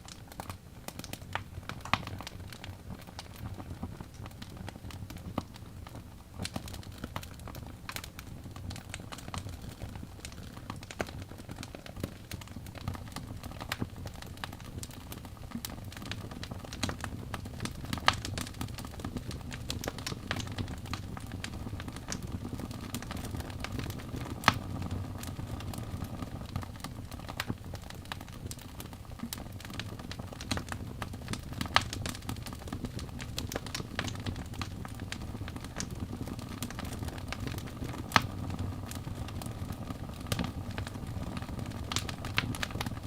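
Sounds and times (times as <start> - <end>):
logs crackling and popping: 0.0 - 43.0
low rumble of flames: 0.0 - 43.0.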